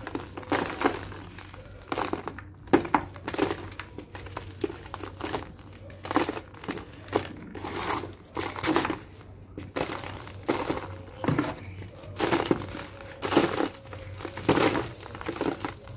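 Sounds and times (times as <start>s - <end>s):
gritty crunching of dry cement lumps: 0.0s - 15.9s.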